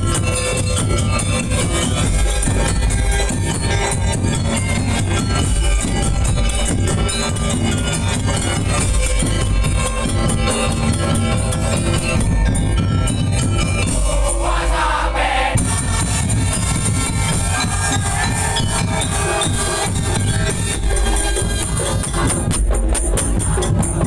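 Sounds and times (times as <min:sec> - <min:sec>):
jingling rattling percussion: 0:00.0 - 0:14.8, 0:15.6 - 0:24.0
drums: 0:00.0 - 0:24.0.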